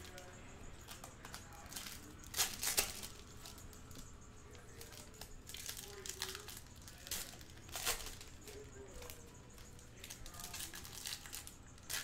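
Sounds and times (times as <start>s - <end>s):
foil wrapper crinkling and tearing: 0.0s - 3.8s, 4.6s - 9.2s, 10.0s - 12.0s
cards being handled: 0.0s - 12.0s.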